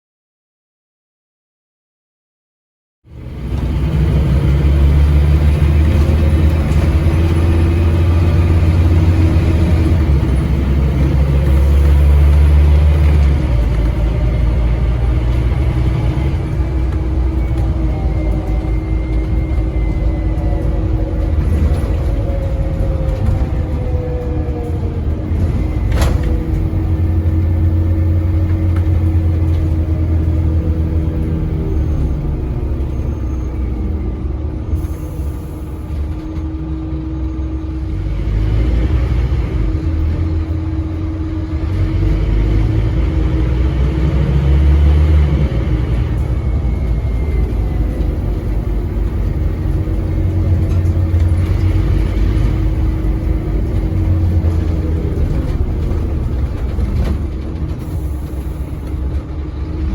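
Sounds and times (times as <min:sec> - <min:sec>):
bus diesel engine drone: 0:03.0 - 0:59.9
gearbox whine: 0:03.4 - 0:37.9, 0:39.4 - 0:59.9.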